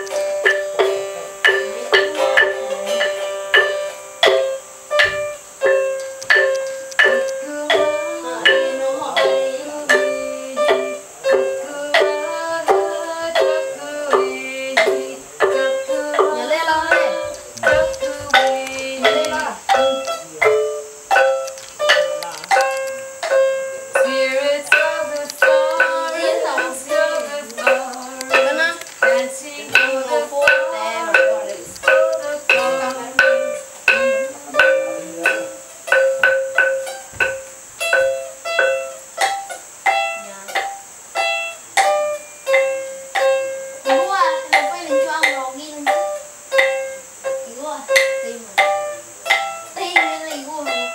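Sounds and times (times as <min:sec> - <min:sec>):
plucked lute melody: 0:00.0 - 0:50.9
wooden xylophone: 0:00.0 - 0:50.9.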